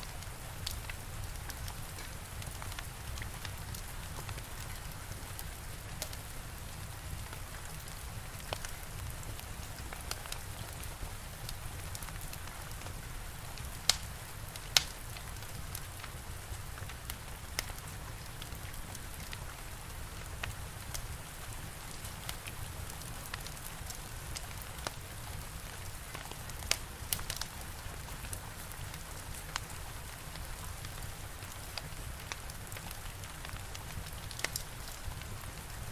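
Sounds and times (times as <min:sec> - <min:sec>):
steady rain: 0:00.0 - 0:35.9
wood fire crackling: 0:00.0 - 0:35.9.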